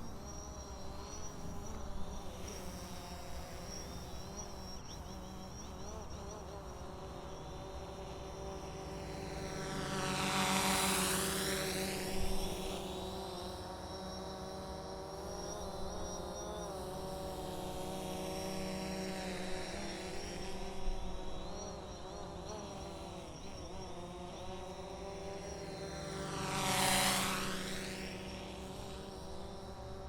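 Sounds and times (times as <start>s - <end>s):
drone propeller buzz: 0.0s - 30.0s.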